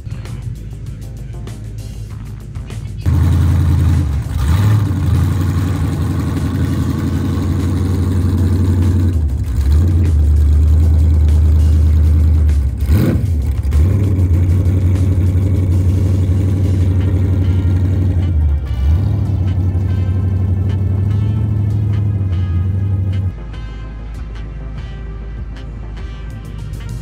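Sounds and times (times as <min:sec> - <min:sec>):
car engine idling loudly: 0:00.0 - 0:23.3
engine rev: 0:00.0 - 0:27.0.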